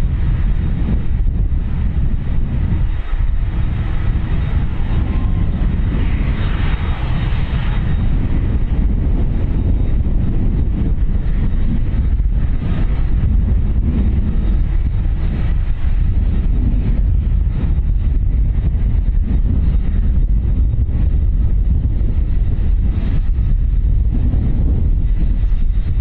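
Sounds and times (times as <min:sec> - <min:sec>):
jet engine whine: 0:00.0 - 0:26.0
wind rumble on microphone: 0:00.0 - 0:26.0.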